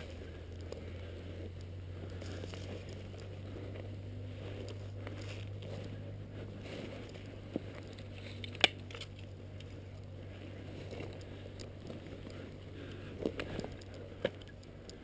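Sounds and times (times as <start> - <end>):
rustling through dry undergrowth: 0.0 - 15.0
steady low hum: 0.0 - 15.0.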